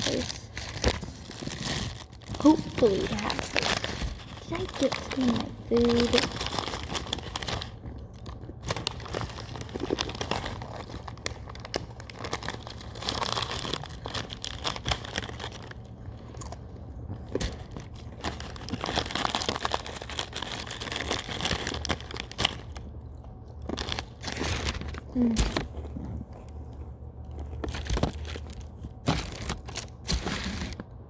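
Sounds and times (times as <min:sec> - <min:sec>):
crinkling and rustling: 0:00.0 - 0:31.0
small crunches and clicks: 0:00.0 - 0:31.0.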